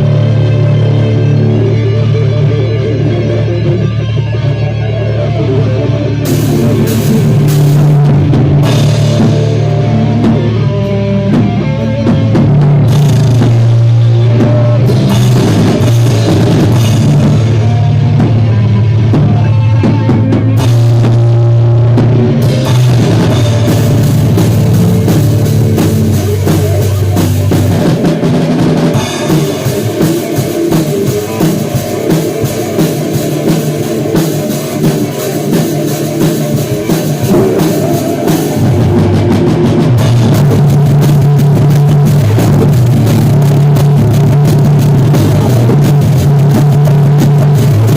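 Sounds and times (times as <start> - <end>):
bass guitar: 0.0 - 47.9
distorted electric guitar: 0.0 - 47.9
drum kit: 0.0 - 47.9.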